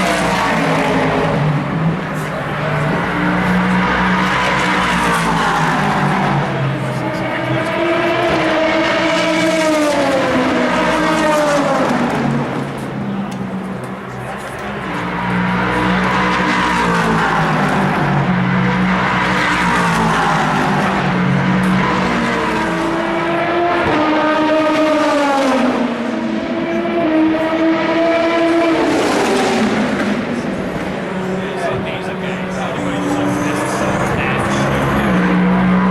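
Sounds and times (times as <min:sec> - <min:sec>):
race cars passing at speed: 0:00.0 - 0:35.9.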